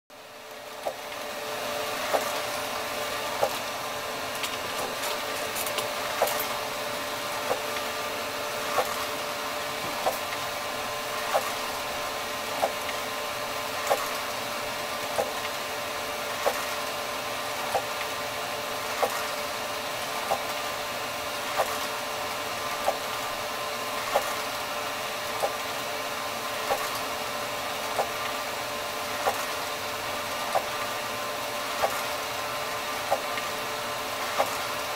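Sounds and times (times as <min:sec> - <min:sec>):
printer motor whirring: 0:00.1 - 0:34.9.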